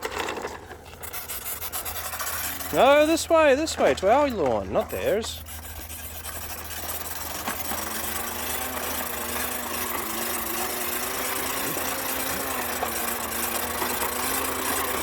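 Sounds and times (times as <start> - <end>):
toy electric motor buzzing: 0.9 - 15.0.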